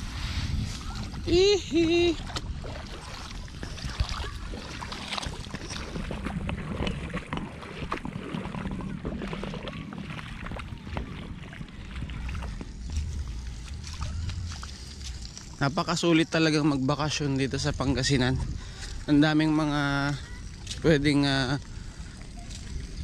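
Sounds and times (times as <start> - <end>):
sea washing on shore: 0.0 - 23.0
wind rumbling on microphone: 0.0 - 23.0.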